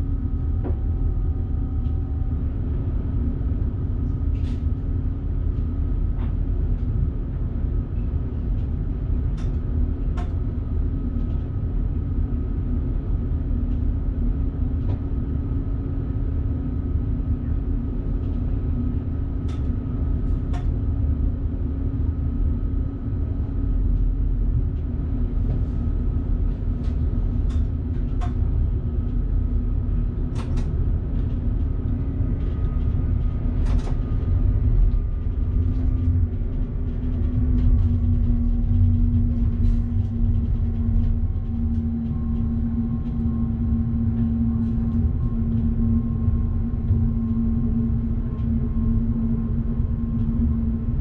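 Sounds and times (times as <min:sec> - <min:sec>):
electric train rumble and hum: 0:00.0 - 0:51.0.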